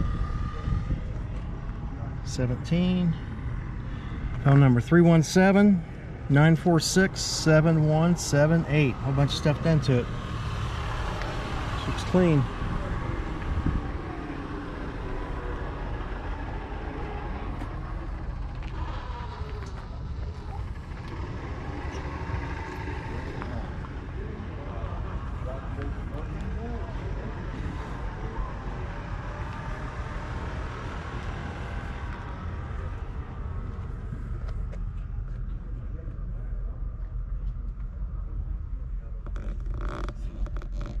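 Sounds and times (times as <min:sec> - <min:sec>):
low outdoor rumble: 0:00.0 - 0:41.0.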